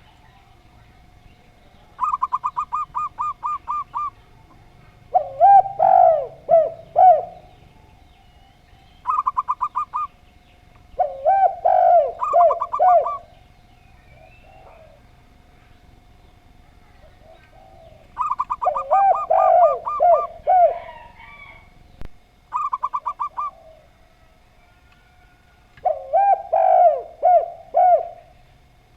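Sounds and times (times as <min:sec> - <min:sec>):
doves cooing: 0:00.0 - 0:28.9
faint steady hum: 0:00.0 - 0:28.9.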